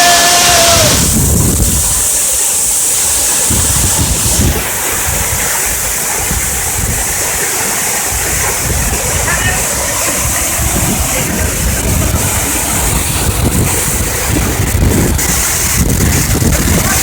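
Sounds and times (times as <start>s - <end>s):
waterfall rushing: 0.0s - 17.0s
wind buffeting microphone: 0.5s - 17.0s.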